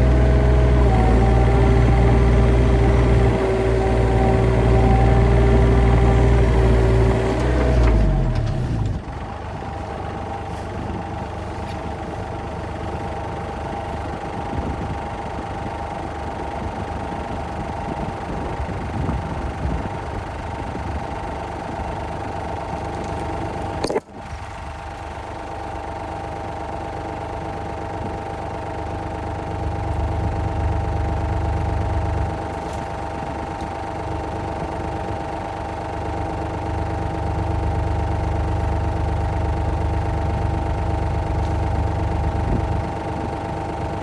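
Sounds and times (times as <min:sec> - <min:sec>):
engine idling: 0:00.0 - 0:44.0.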